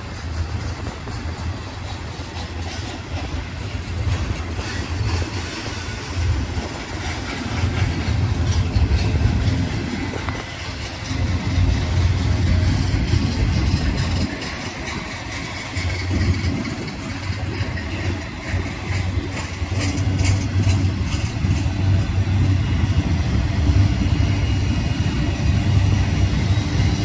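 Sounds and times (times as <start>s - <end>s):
locomotive diesel engines throbbing: 0.0s - 27.0s.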